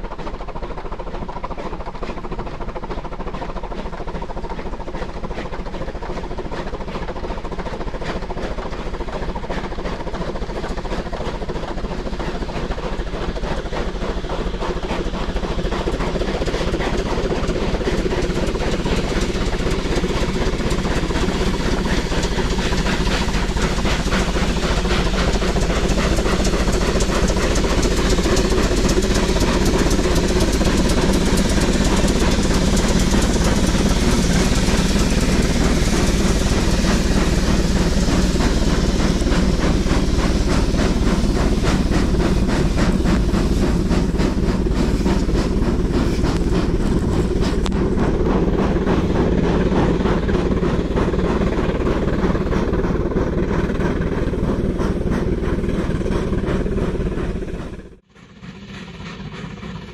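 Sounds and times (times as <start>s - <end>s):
steam snowplough mechanical clatter: 0.0s - 59.9s.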